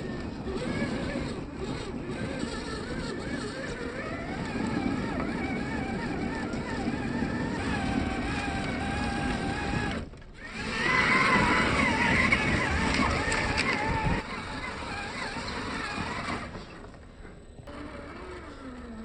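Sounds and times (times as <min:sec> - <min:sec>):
drivetrain and tyres rumbling: 0:00.0 - 0:19.0
electric motor whining: 0:00.0 - 0:19.0.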